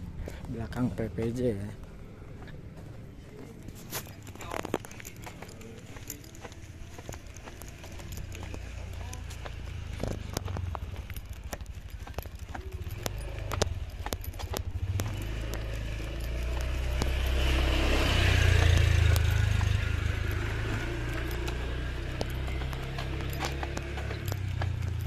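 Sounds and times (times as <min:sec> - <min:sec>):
footsteps on concrete: 0:00.0 - 0:25.0
motorcycle passing: 0:00.0 - 0:25.0.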